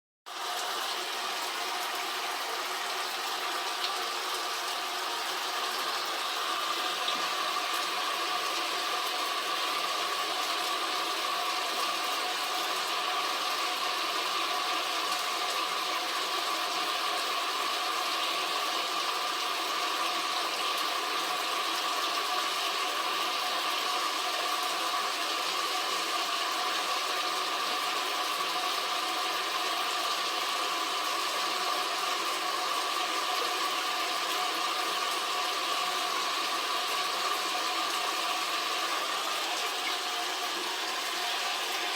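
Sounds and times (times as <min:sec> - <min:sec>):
shower spraying water: 0:00.3 - 0:41.9.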